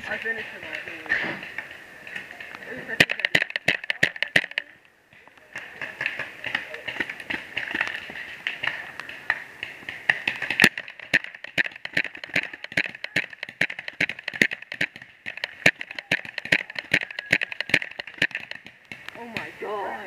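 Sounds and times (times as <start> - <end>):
paintball markers firing: 0.1 - 19.5.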